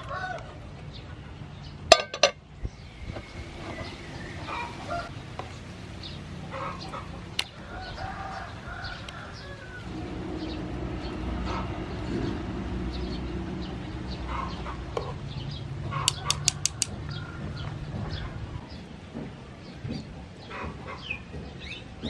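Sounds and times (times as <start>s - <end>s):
chickens clucking: 0.0s - 12.6s, 13.2s - 22.0s.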